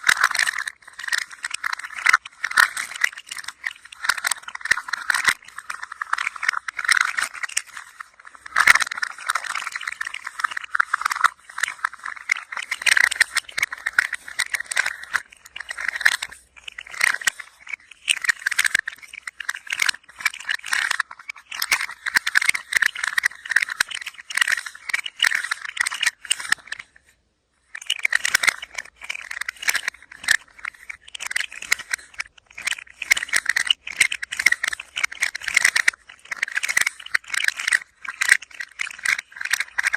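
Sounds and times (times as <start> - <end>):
toy rattling: 0.0 - 39.9.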